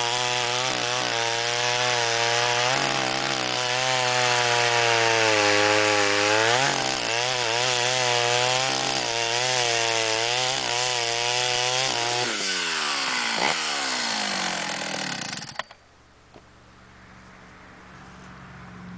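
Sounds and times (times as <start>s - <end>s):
chainsaw cutting a log: 0.0s - 15.8s.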